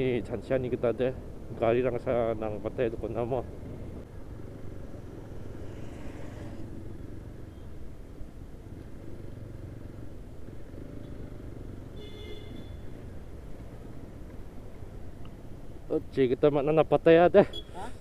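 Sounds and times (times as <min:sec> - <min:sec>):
motorcycle engine rumble: 0:00.0 - 0:15.6
wind and road noise: 0:00.0 - 0:18.0.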